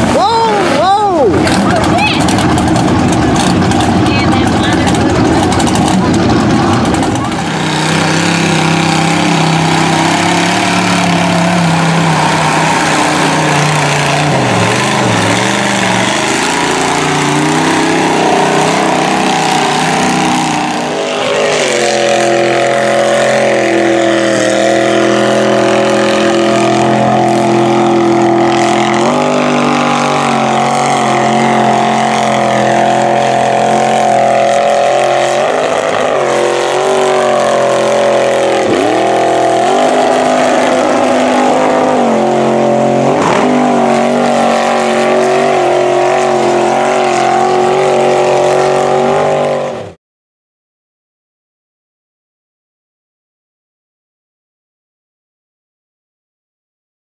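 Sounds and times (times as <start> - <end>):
truck engines revving: 0.0 - 50.0.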